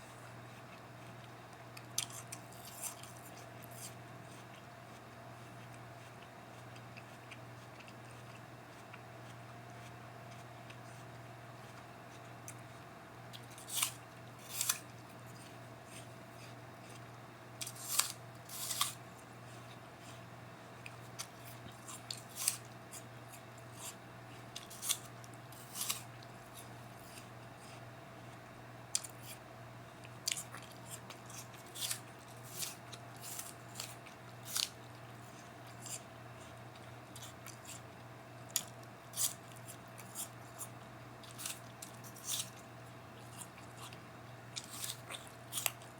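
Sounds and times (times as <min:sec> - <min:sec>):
person chewing a crisp apple: 0:00.0 - 0:45.9
steady low hum: 0:00.0 - 0:45.9.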